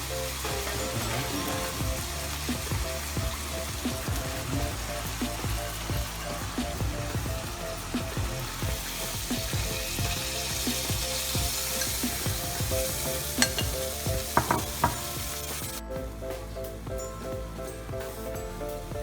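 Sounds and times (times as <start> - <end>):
ribs sizzling in a pan: 0.0 - 15.8
light background music: 0.0 - 19.0.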